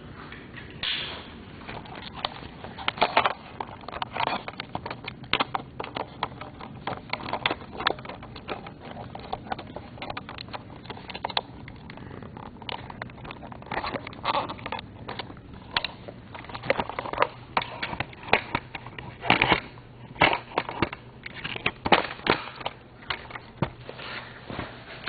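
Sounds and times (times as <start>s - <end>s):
objects being handled: 0.0s - 25.0s.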